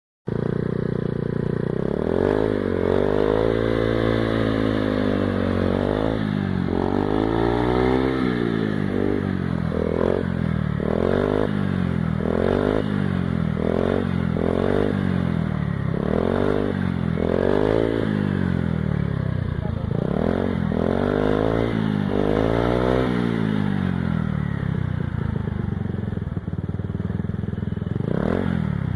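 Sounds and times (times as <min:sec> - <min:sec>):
scooter engine revving: 0:00.3 - 0:28.9.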